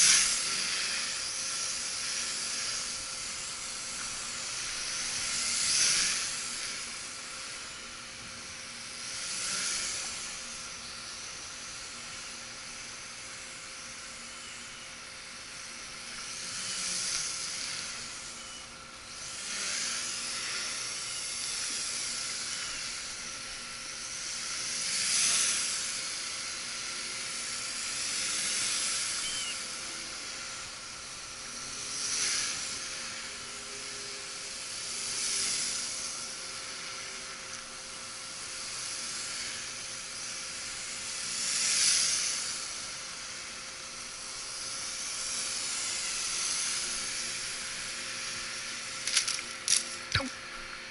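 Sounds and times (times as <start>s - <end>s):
quadcopter propellers hissing: 0.0s - 50.9s.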